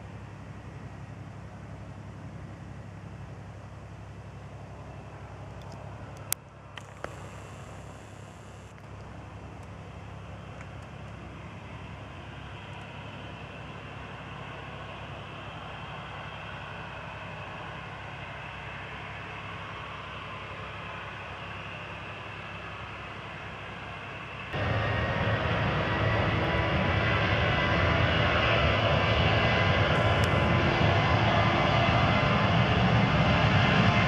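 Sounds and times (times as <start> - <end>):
jet engines: 0.0 - 34.0.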